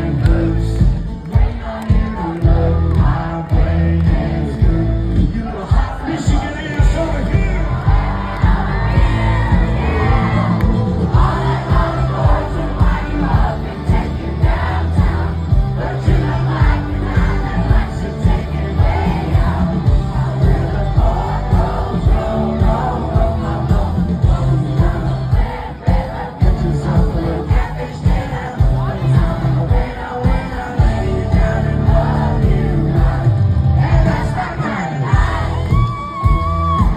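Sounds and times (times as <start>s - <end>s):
amplified live band: 0.0s - 36.9s
crowd noise: 0.0s - 36.9s
lead singer: 0.0s - 36.9s.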